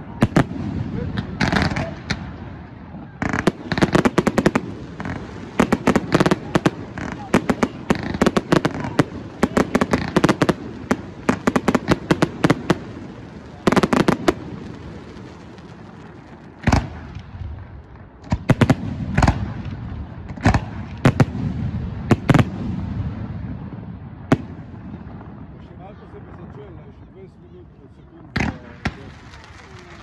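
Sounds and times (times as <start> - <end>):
fireworks bursting with loud bangs: 0.0 - 26.6, 28.3 - 30.0.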